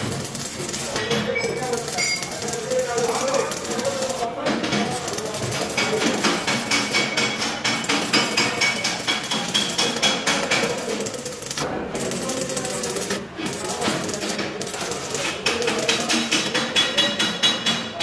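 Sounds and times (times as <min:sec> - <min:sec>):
hammer striking steel: 0:00.9 - 0:18.0.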